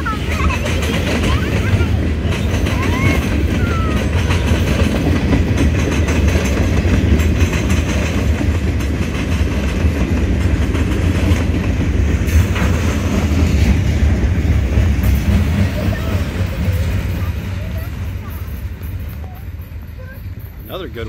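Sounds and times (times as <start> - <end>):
steel wheels rumbling on rail: 0.0 - 21.0
wheels clacking over track joints: 0.0 - 21.0.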